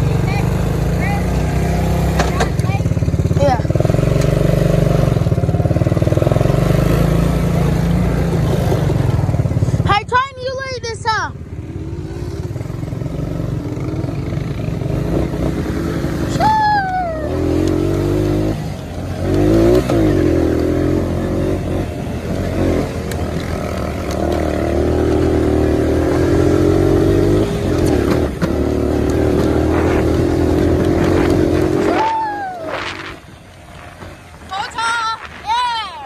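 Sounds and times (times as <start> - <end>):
atv engine revving: 0.0 - 36.0.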